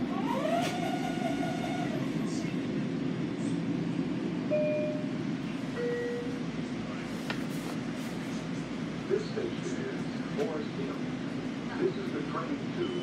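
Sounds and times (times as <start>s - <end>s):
railcar hum: 0.0s - 13.0s.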